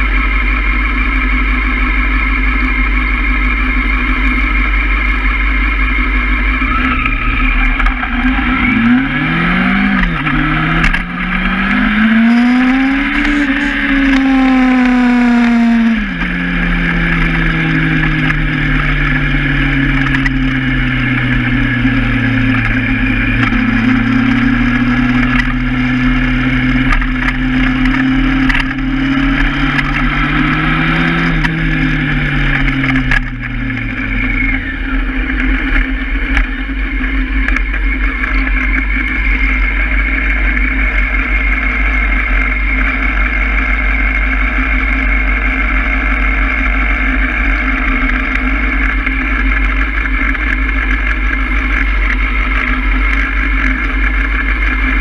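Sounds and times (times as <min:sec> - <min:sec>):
constant low rumble: 0:00.0 - 0:55.0
motorcycle engine: 0:00.0 - 0:55.0.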